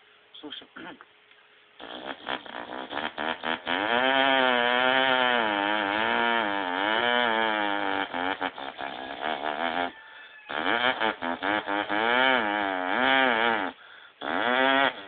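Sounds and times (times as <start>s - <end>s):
man imitating a chainsaw: 1.8s - 9.9s, 10.5s - 15.0s.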